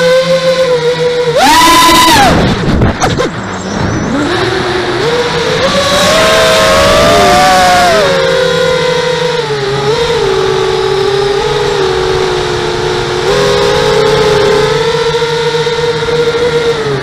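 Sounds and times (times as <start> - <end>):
quadcopter propellers whining: 0.0 - 17.0.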